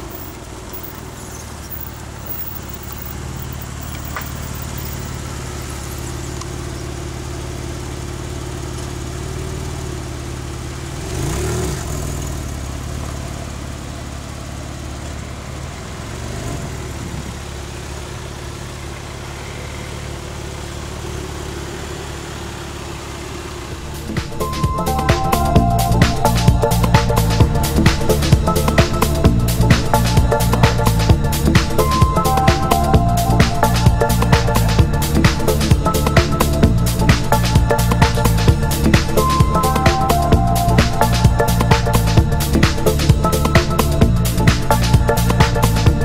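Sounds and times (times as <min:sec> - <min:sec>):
car engine idling: 0:00.0 - 0:46.0
car engine revving: 0:00.0 - 0:46.0.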